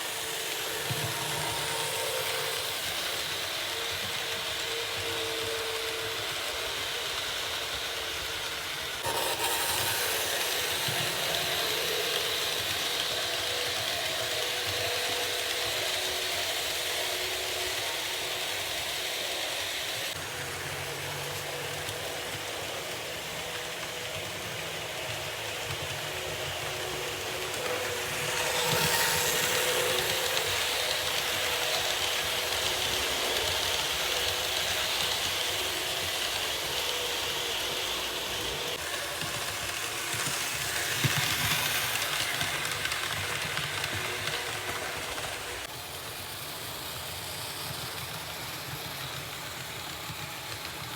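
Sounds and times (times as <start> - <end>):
model train motor whirring: 0.0 - 50.9
wheel and track rattle: 0.0 - 50.9.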